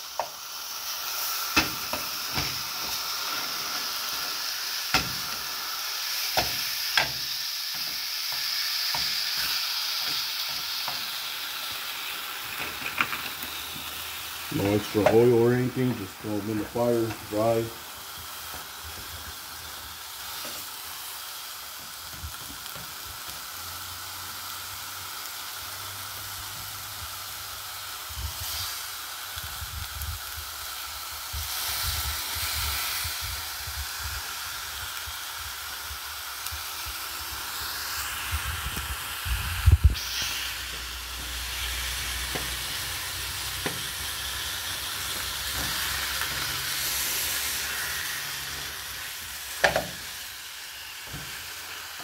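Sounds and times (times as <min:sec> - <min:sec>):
patties sizzling in a pan: 0:00.0 - 0:52.0.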